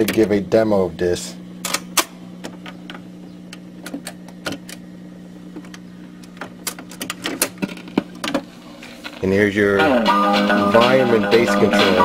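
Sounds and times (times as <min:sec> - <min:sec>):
record player hum: 0:00.0 - 0:12.0.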